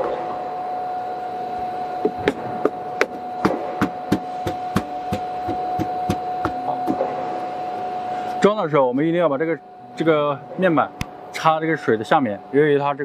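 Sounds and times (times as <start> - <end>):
steady tone: 0.0 - 13.0.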